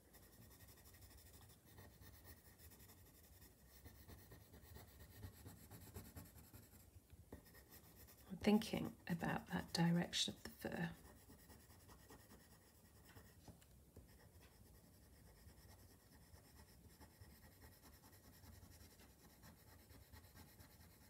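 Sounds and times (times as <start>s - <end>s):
pencil scratching on paper: 0.0s - 21.0s.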